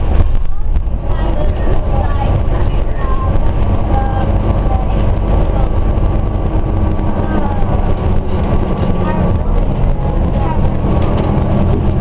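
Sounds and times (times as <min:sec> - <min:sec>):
bus engine drone: 0:00.0 - 0:12.0
road noise: 0:00.0 - 0:12.0.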